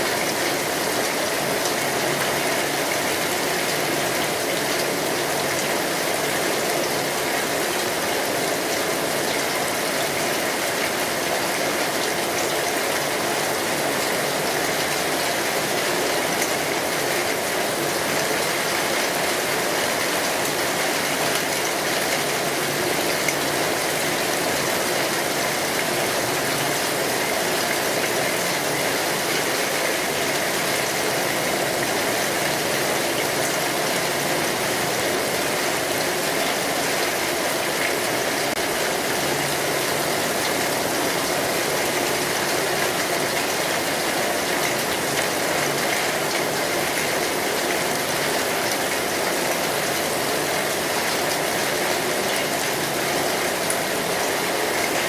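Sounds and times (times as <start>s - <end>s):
rain falling on a street: 0.0s - 55.0s.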